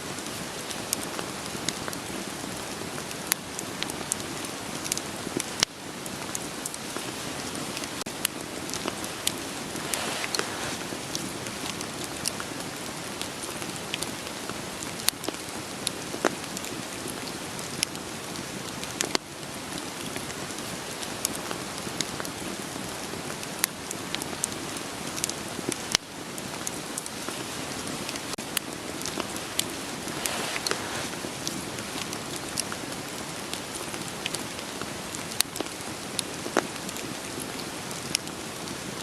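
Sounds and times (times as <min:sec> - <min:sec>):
steady rain falling: 0:00.0 - 0:39.0
wood fire crackling: 0:00.1 - 0:39.0.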